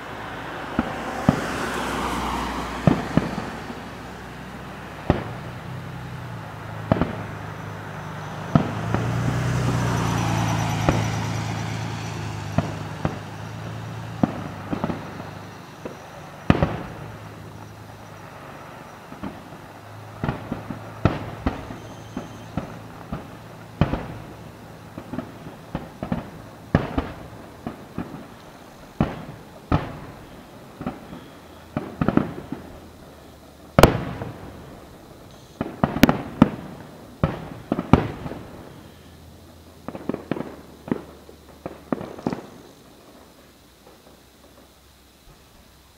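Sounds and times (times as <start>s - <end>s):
fireworks bursting with sharp bangs: 0.0s - 45.9s.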